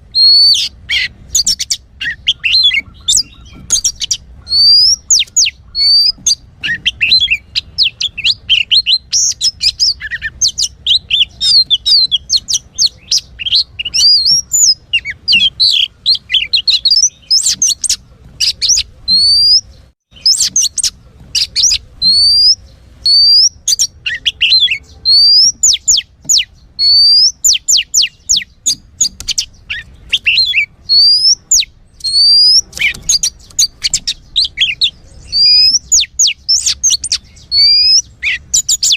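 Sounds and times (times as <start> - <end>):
bird song whistles and chirps: 0.0 - 38.9.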